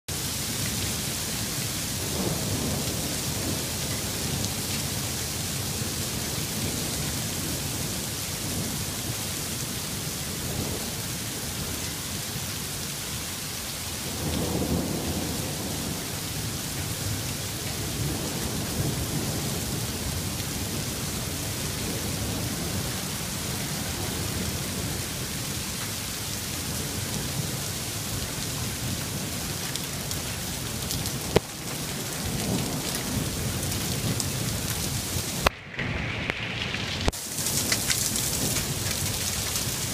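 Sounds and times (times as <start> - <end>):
hail and rain pelting: 0.1 - 39.9.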